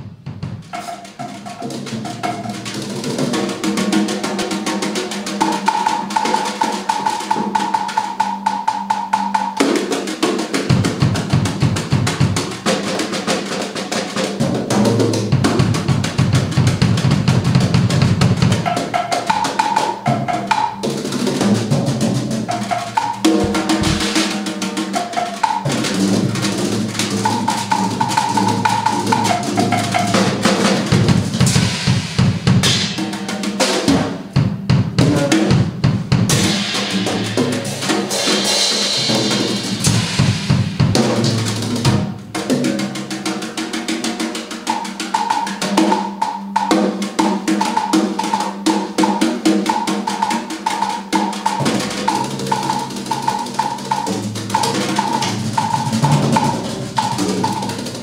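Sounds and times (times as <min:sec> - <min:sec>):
drum kit played fast: 0:00.0 - 0:58.0.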